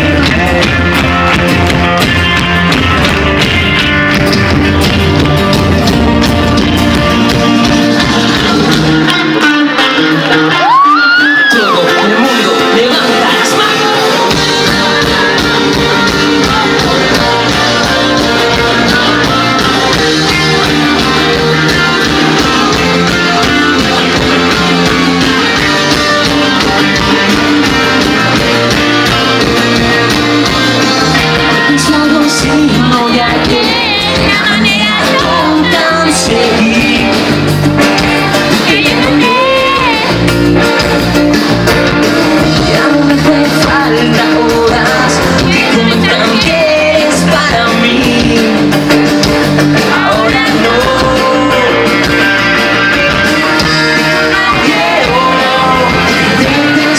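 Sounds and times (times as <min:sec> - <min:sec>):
person singing: 0:00.0 - 0:01.8, 0:05.8 - 0:40.8, 0:41.6 - 0:56.9
drums: 0:00.0 - 0:56.9
live rock band: 0:00.0 - 0:56.9.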